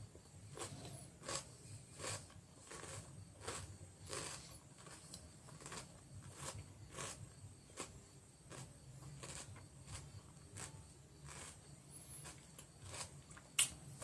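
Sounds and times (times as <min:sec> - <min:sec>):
chewing crisp cucumber: 0:00.5 - 0:13.8.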